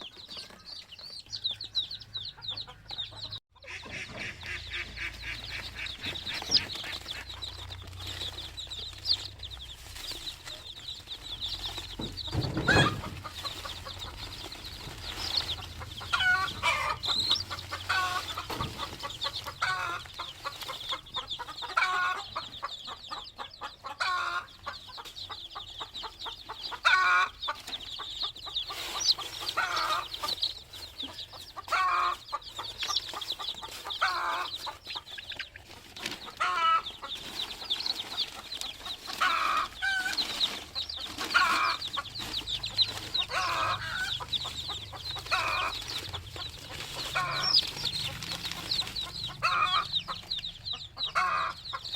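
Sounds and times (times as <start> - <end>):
chicken calls: 0.0 - 51.9
chicks peeping: 0.0 - 51.9.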